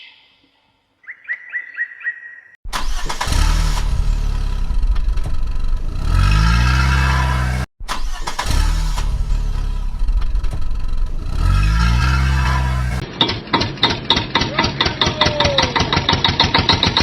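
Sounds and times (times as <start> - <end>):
engine revving: 2.7 - 17.0.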